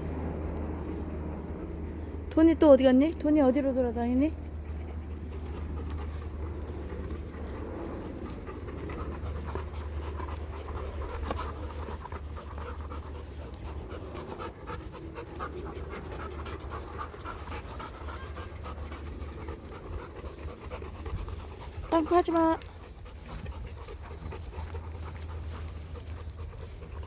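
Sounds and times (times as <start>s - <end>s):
low rumble: 0.0s - 22.0s
dog panting: 0.0s - 27.0s.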